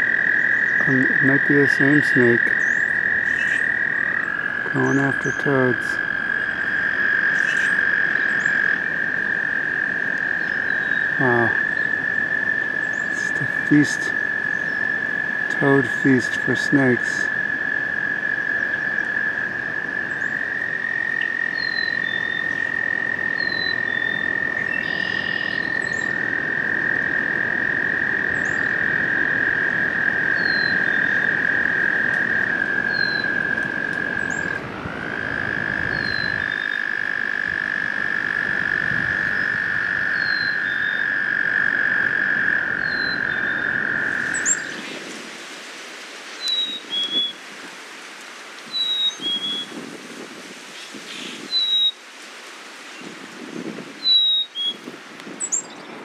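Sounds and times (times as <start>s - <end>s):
toads trilling: 0.0s - 45.2s, 46.2s - 47.9s, 48.6s - 49.8s, 50.6s - 52.1s, 52.7s - 56.0s.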